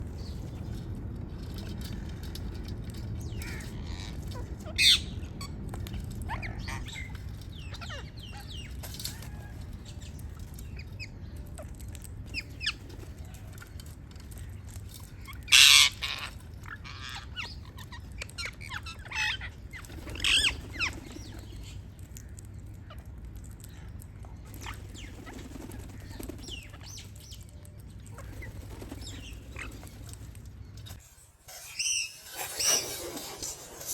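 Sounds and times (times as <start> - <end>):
parrots chirping and squawking: 1.5 - 33.4.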